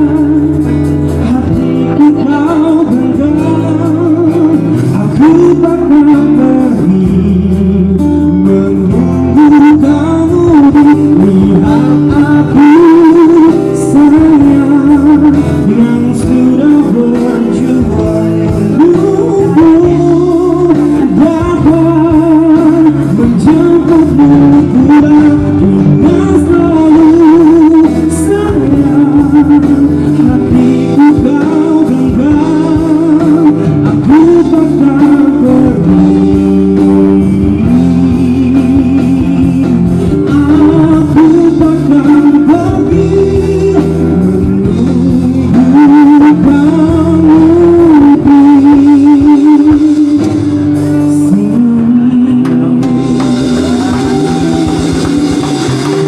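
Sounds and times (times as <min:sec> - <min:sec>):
band with guitars: 0:00.0 - 0:56.0
man singing a pop ballad: 0:00.0 - 0:56.0.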